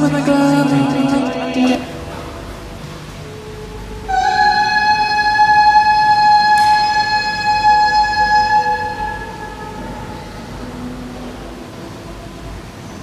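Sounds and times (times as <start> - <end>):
held electronic note: 0.0 - 12.5.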